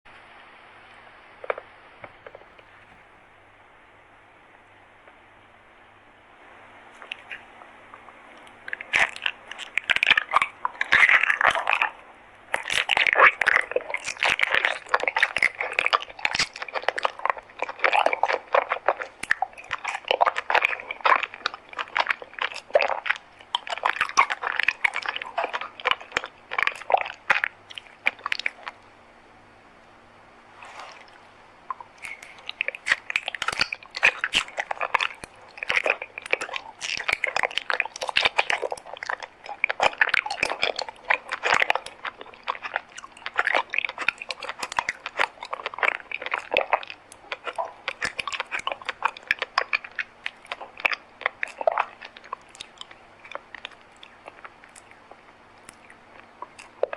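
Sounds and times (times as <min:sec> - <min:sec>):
crisp chewing and crunching: 0:01.4 - 0:03.2, 0:07.0 - 0:28.9, 0:30.6 - 0:56.9.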